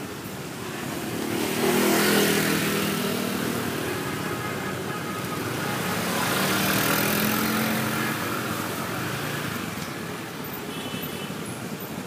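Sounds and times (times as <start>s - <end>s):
motor scooter engines running: 0.0s - 9.8s.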